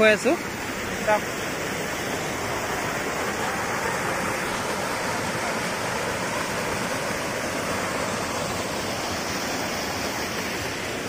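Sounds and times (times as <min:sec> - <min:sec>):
waterfall splashing over rocks: 0:00.0 - 0:11.0.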